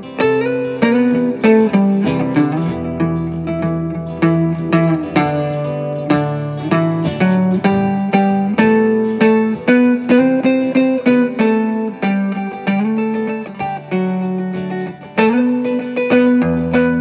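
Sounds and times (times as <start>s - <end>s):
acoustic guitar: 0.0s - 17.0s
electric guitar: 0.0s - 17.0s.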